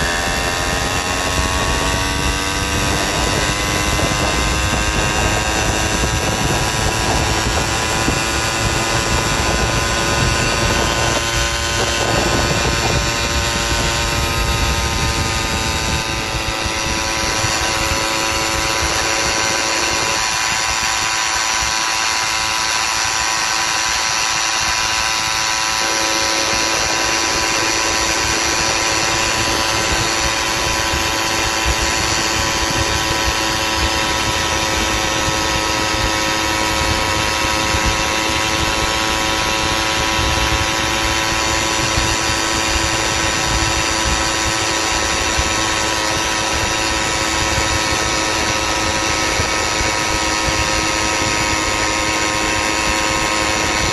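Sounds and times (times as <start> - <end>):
low wind rumble: 0.0 - 53.9
small engine buzzing: 0.0 - 53.9.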